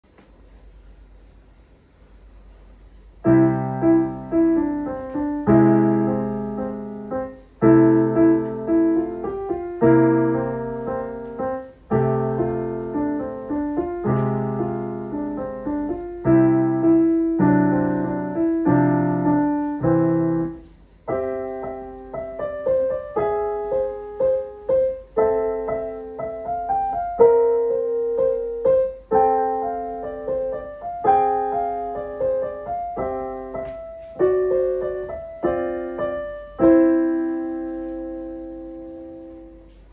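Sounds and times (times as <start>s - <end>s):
solo piano piece: 2.3s - 39.9s.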